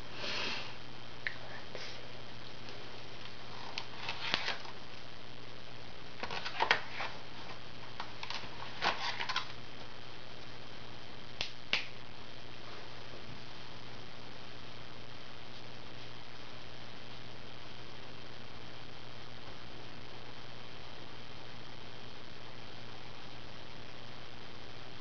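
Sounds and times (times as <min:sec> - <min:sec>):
faint low hum: 0:00.0 - 0:25.0
steady hiss: 0:00.0 - 0:25.0.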